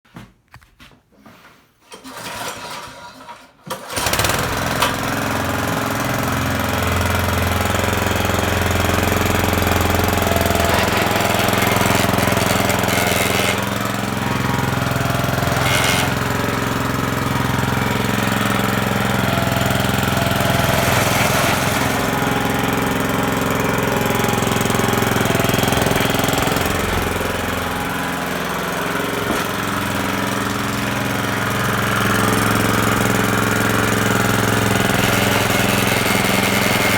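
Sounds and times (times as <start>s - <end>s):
reel mower rattling clatter: 1.9s - 36.9s.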